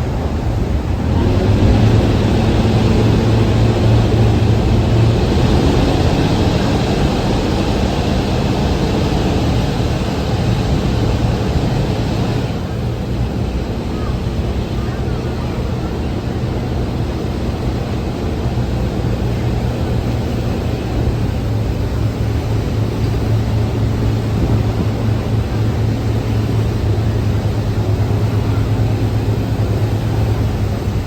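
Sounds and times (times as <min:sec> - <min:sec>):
boat engines droning: 0:00.0 - 0:31.0
rushing noise: 0:00.0 - 0:31.0.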